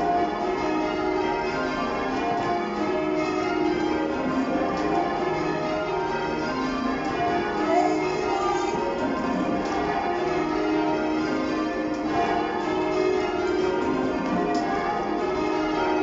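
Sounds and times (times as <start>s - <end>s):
church bells change ringing: 0.0s - 16.0s.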